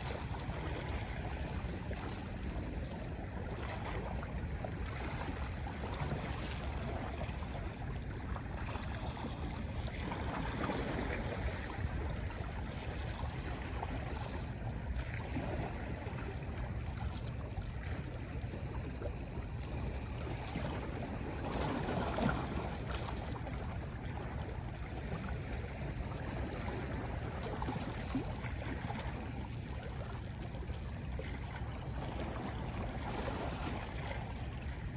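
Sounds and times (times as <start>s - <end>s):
sea waves washing on shore: 0.0s - 34.9s.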